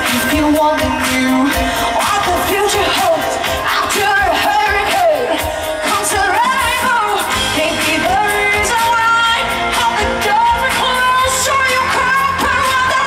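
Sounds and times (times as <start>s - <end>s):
amplified band playing: 0.0s - 13.0s
woman singing lead: 0.0s - 13.0s.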